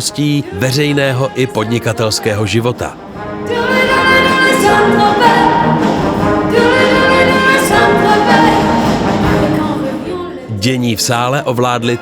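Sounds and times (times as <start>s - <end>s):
brass instruments playing chords: 0.0s - 10.5s.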